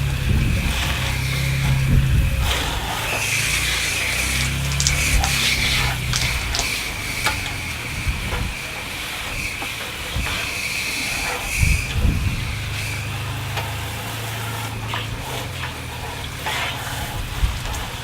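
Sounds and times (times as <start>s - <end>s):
hose spraying water: 0.0s - 18.0s
water ticks and splashes: 0.0s - 18.0s.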